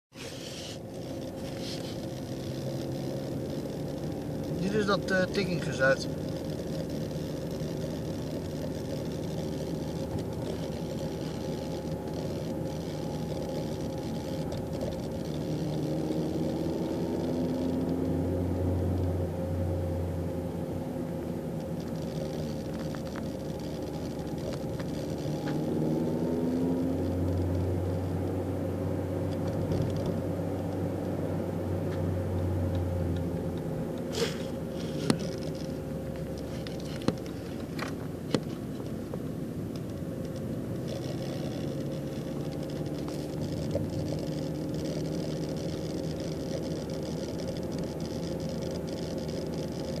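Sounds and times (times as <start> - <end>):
car engine and road noise: 0.1 - 50.0.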